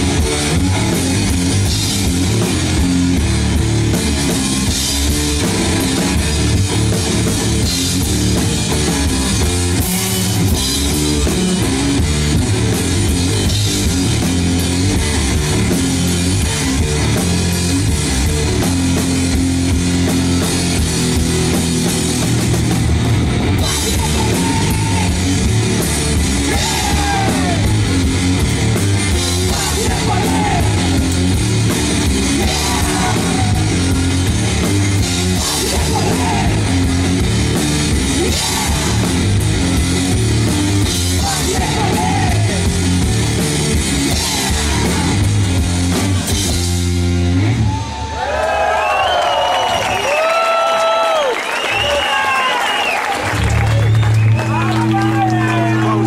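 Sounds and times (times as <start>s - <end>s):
rock drum beat: 0.0s - 47.8s
distorted electric guitar: 0.0s - 48.2s, 53.6s - 56.0s.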